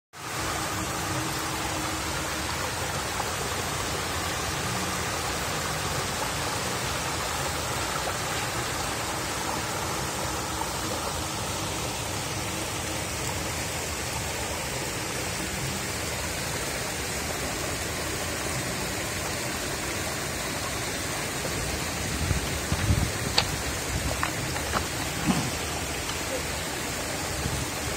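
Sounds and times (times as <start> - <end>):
stream water flowing over stones: 0.2 - 27.9.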